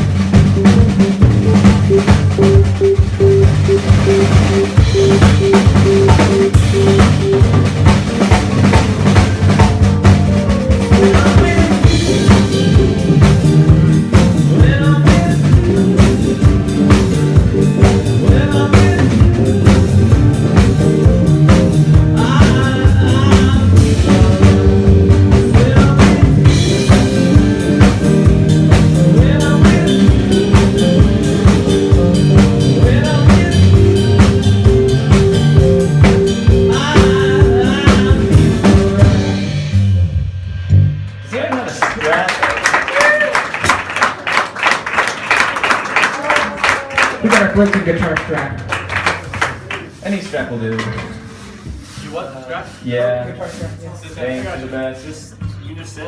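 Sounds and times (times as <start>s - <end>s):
drum kit hitting: 0.0s - 45.8s
live rock band playing: 0.0s - 50.2s.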